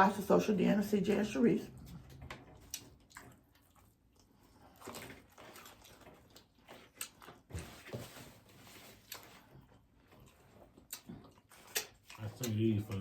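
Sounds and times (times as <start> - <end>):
person chewing: 1.8 - 13.0.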